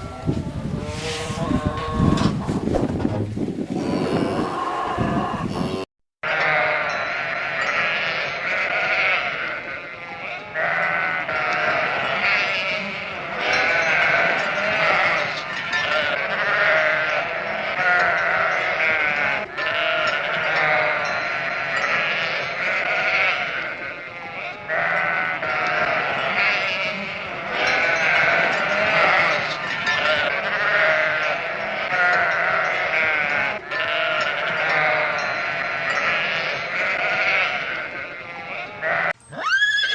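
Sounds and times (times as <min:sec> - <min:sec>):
sheep bleating: 0:03.8 - 0:39.9.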